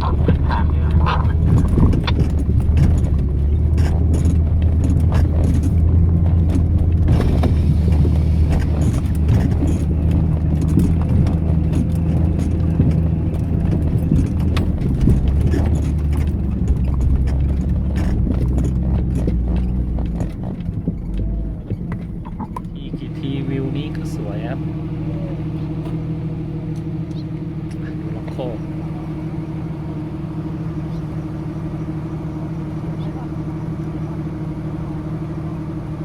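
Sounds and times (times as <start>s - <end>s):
knocks and rattles: 0.0s - 34.3s
vehicle engine droning: 0.0s - 36.0s.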